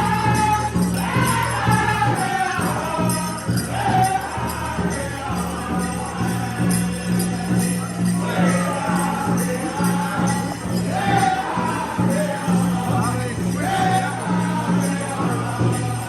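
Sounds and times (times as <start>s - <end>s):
big drum steady beat: 0.0s - 16.0s
drum group singing: 0.0s - 16.0s
metallic jingling: 0.0s - 16.0s.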